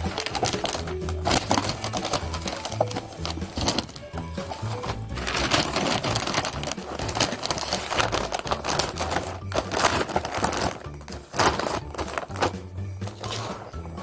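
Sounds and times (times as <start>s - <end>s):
wrapping paper crinkling: 0.0s - 14.0s.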